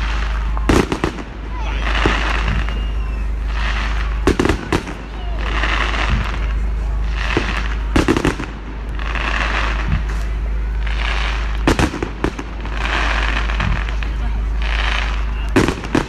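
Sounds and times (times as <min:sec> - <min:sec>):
fireworks banging: 0:00.0 - 0:16.0
fireworks hissing: 0:00.0 - 0:16.0.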